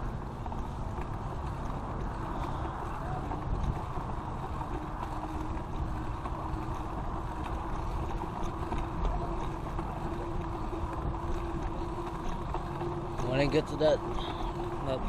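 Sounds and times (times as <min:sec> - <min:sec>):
wind on microphone: 0:00.0 - 0:13.3
bicycle tyres on pavement: 0:00.0 - 0:15.0.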